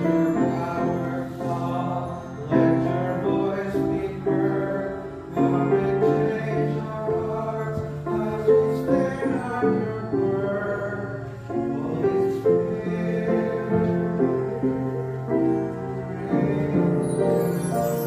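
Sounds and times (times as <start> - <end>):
choir singing: 0.0 - 18.0
pianos playing worship song: 0.0 - 18.0.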